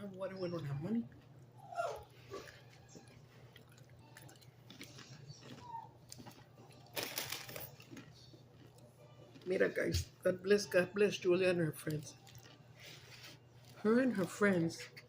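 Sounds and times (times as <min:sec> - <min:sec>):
chewing and eating: 0:00.3 - 0:10.3, 0:11.7 - 0:15.0.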